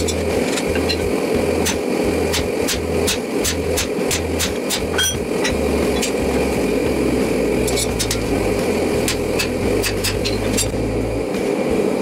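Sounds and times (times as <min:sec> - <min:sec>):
gas forge burner rushing: 0:00.0 - 0:12.0.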